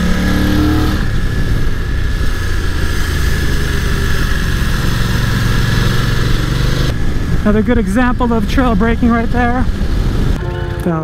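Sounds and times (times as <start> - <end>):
wind rush on microphone: 0.0 - 10.4
motorcycle engine running: 0.0 - 11.0.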